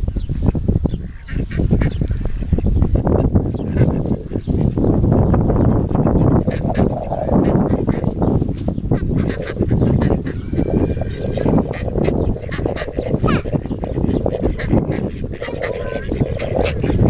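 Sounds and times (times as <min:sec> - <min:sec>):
ducks quacking: 0:01.0 - 0:04.7, 0:05.6 - 0:17.0.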